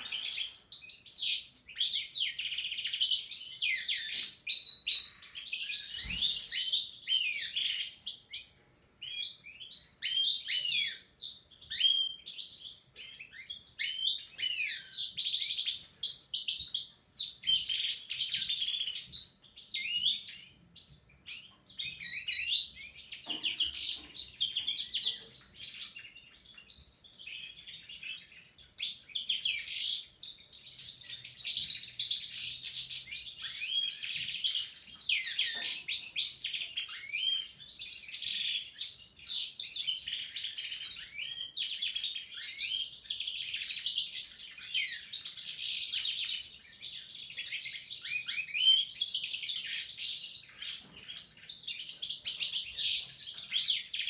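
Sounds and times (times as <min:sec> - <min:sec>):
caged birds singing: 0:00.0 - 0:54.0.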